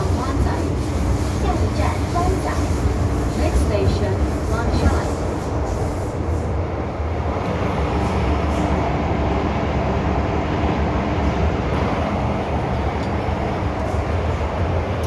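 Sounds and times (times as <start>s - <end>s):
metro train wheels rumbling on rails: 0.0s - 15.0s.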